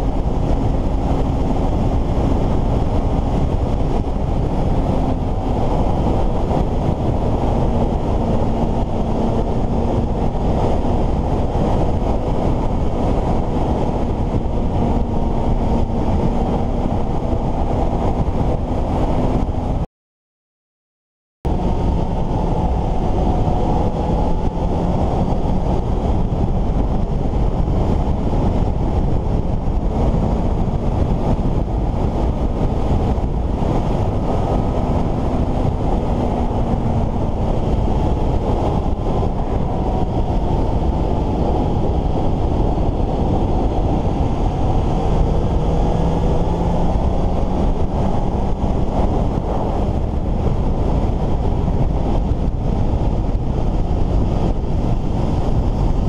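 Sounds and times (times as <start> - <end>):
motorcycle engine: 0.0 - 19.8, 21.5 - 56.0
wind rush on microphone: 0.0 - 19.9, 21.4 - 56.0.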